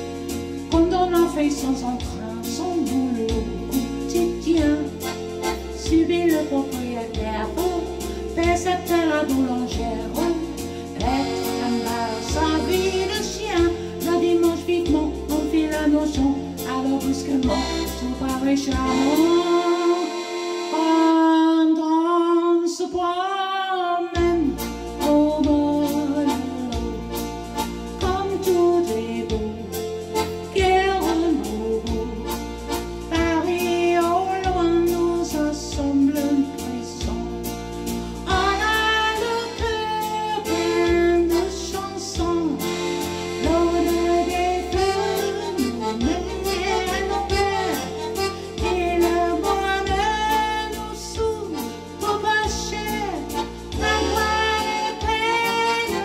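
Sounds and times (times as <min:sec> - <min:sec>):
electronic keyboard: 0:00.0 - 0:22.9, 0:24.0 - 0:56.0
bass accompaniment: 0:00.0 - 0:56.0
elderly woman singing: 0:00.7 - 0:05.1, 0:05.7 - 0:27.0, 0:28.0 - 0:29.8, 0:30.6 - 0:32.2, 0:33.1 - 0:37.4, 0:38.3 - 0:42.6, 0:43.4 - 0:56.0.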